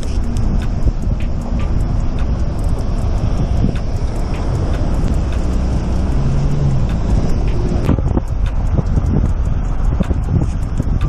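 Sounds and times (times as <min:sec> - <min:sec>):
cars rumbling: 0:00.0 - 0:11.0
faint light ticks: 0:00.0 - 0:11.0
low steady hum: 0:00.0 - 0:11.0
wind on microphone: 0:00.0 - 0:11.0.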